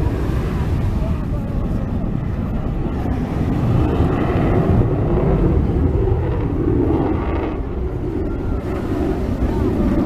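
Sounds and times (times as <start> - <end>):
aircraft engine rumble overhead: 0.0 - 10.0.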